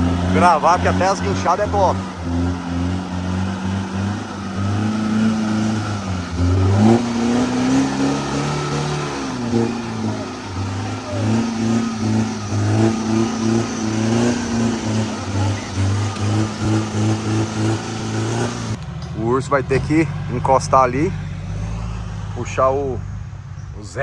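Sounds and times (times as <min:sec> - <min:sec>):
off-road engine revving: 0:00.0 - 0:24.0.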